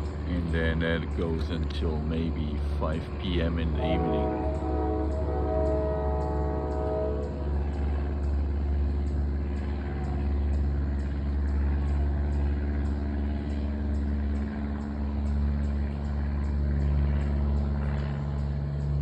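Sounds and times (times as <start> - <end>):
propeller airplane droning overhead: 0.0 - 19.0.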